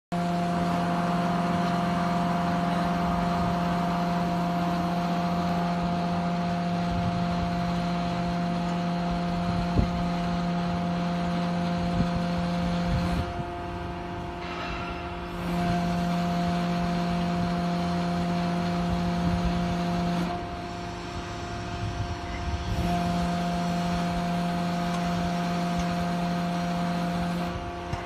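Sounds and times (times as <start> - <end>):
heavy machinery droning hum: 0.1 - 28.0.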